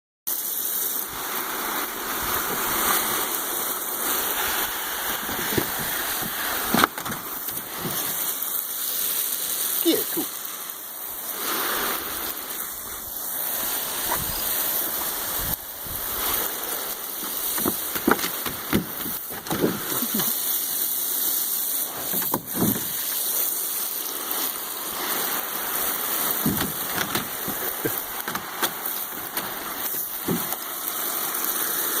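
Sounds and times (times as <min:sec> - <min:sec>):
running water rushing: 0:00.3 - 0:32.0
water splashes: 0:00.3 - 0:32.0.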